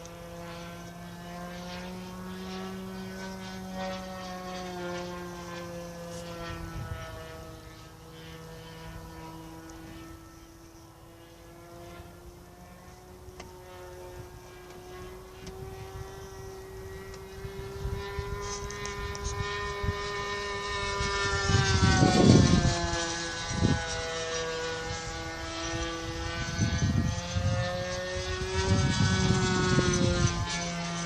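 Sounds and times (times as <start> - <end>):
model airplane engine buzzing: 0.0 - 31.0
wind rumbling on microphone: 2.5 - 10.8, 12.6 - 31.0.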